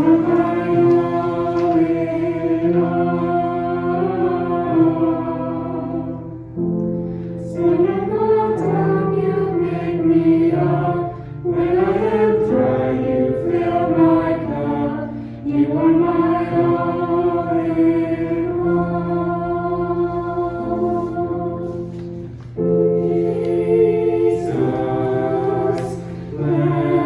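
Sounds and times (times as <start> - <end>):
choir singing: 0.0 - 6.6, 7.5 - 27.0
sustained accompaniment: 0.0 - 27.0.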